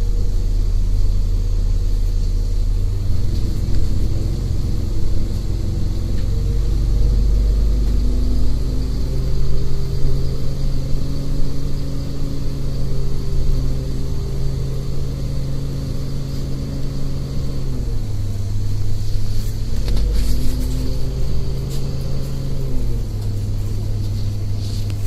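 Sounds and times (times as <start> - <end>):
bus engine droning: 0.0 - 25.0.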